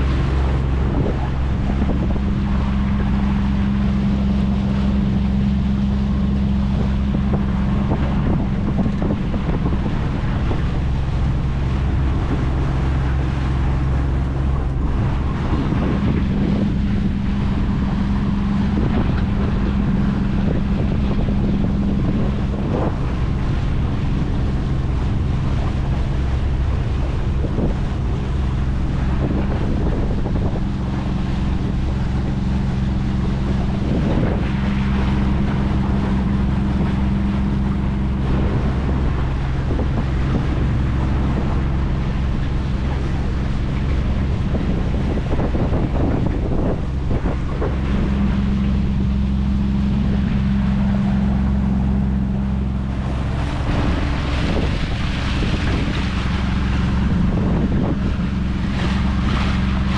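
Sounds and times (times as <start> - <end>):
outboard motor running: 0.0 - 59.9
wind buffeting the microphone: 0.0 - 59.9.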